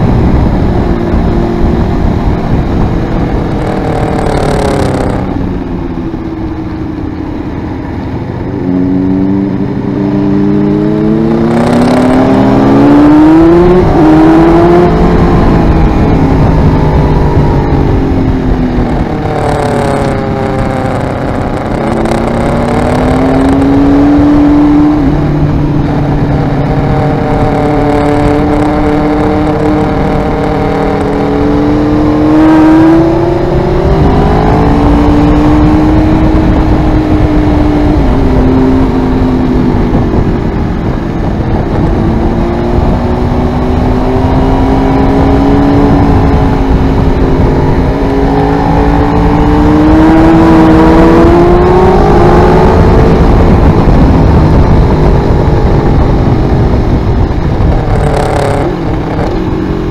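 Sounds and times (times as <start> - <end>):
motorcycle engine revving: 0.0 - 59.9
wind rushing: 0.0 - 59.9.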